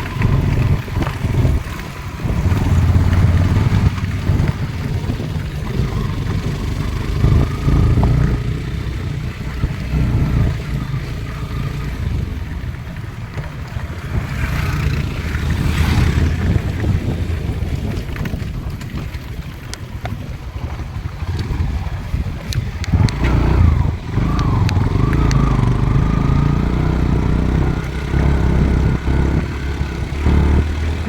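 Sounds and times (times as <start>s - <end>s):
road vehicle rumbling: 0.0s - 31.0s
wind noise on microphone: 0.0s - 31.0s.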